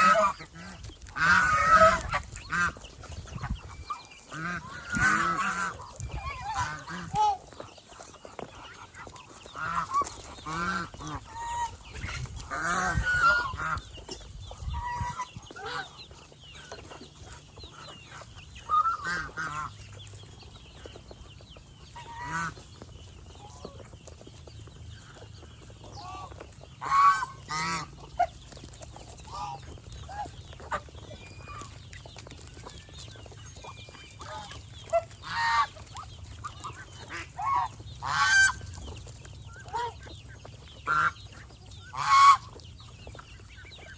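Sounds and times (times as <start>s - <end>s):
geese honking: 0.0s - 20.2s, 21.9s - 22.6s, 25.8s - 28.3s, 29.0s - 31.8s, 32.6s - 38.9s, 39.5s - 43.2s.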